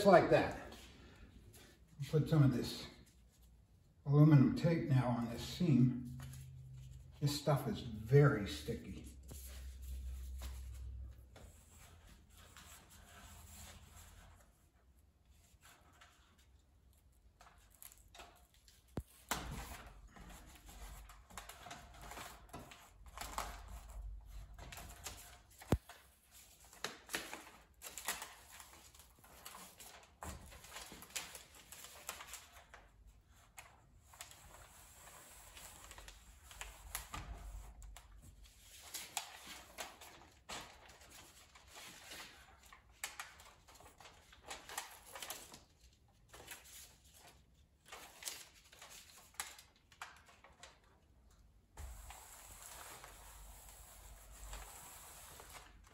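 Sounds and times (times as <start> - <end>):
foil tape crinkling and rustling: 9.1 - 55.9.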